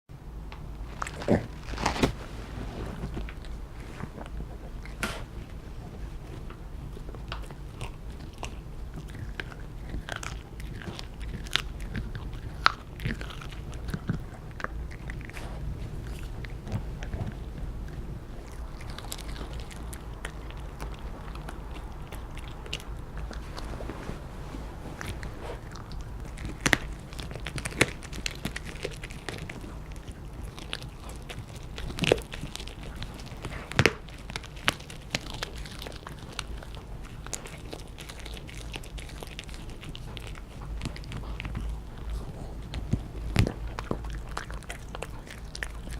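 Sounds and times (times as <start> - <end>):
dog chewing bones: 0.5 - 45.9.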